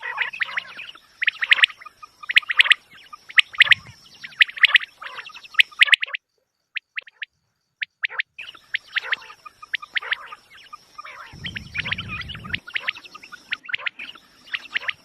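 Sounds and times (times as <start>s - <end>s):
quail chirping: 0.0s - 15.0s.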